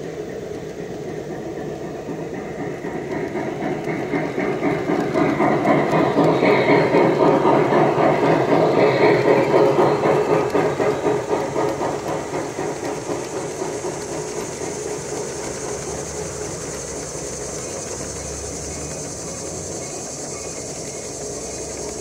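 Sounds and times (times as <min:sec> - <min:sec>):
model train rolling on track: 0:00.0 - 0:22.0.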